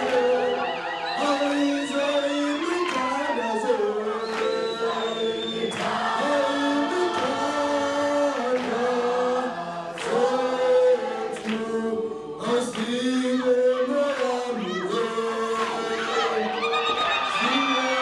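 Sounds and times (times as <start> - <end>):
group singing in chorus: 0.0 - 18.0.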